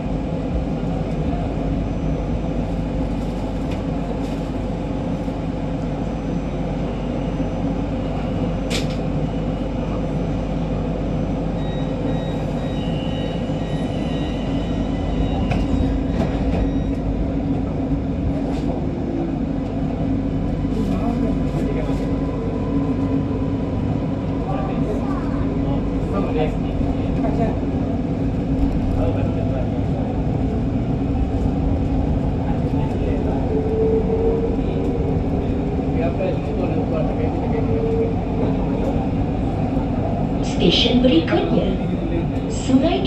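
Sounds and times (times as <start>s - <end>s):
train wheels and motors rumbling: 0.0s - 43.0s.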